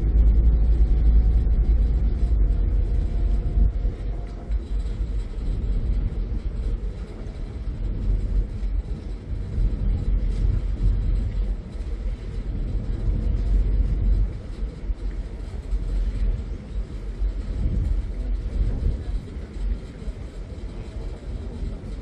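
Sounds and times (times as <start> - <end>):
ferry engines rumbling: 0.0 - 22.0
wind on microphone: 0.0 - 22.0.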